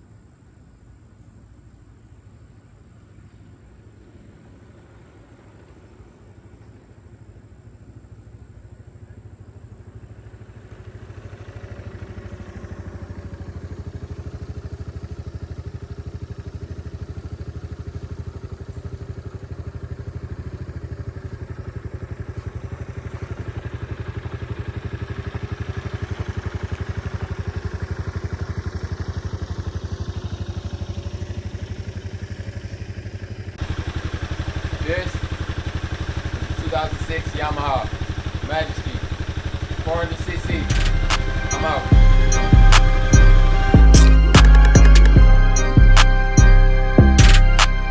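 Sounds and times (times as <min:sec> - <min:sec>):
scooter engine running: 0:01.8 - 0:47.9.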